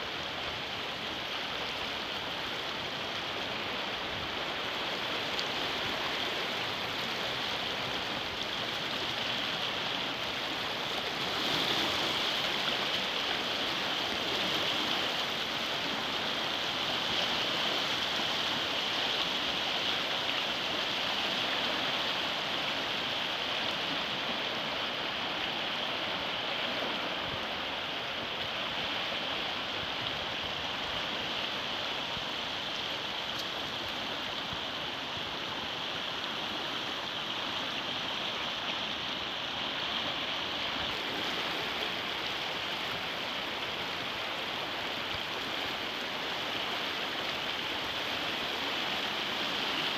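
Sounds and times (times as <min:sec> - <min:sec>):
floodwater rushing: 0:00.0 - 0:49.9.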